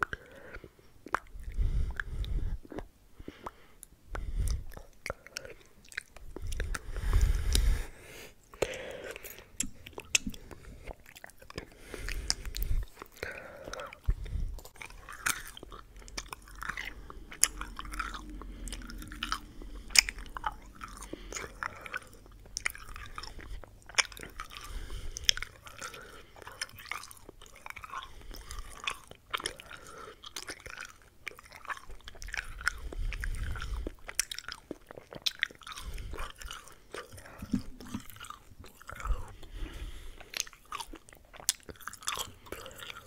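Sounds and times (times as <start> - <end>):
wet mouth clicks and smacks: 1.0 - 7.8, 8.5 - 29.7, 30.3 - 39.5, 40.2 - 43.0.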